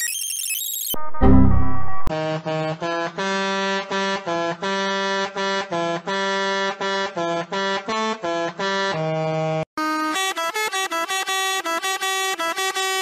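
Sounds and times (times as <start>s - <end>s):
musical bus horn melody: 1.1s - 9.2s, 9.8s - 13.0s.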